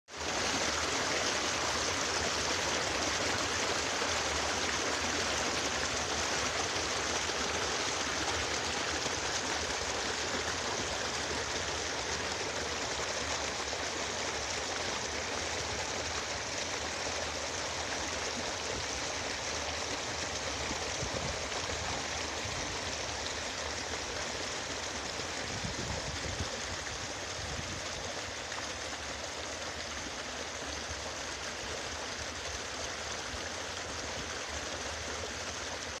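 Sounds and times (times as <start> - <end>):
stream flowing over stones: 0.1 - 36.0.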